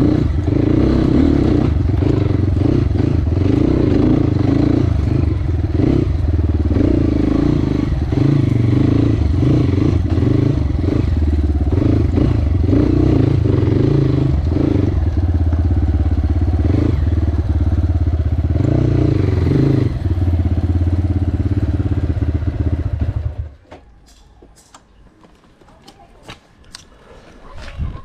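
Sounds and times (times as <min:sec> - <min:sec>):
motorcycle engine running: 0:00.0 - 0:23.6.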